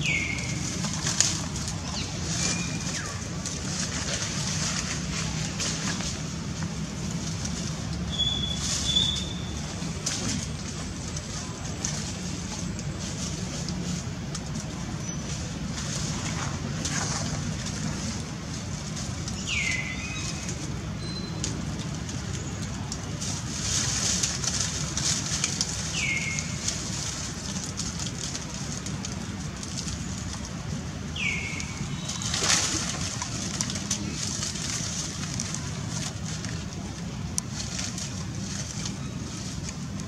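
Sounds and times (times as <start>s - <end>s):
dry leaves rustling: 0.0s - 40.0s.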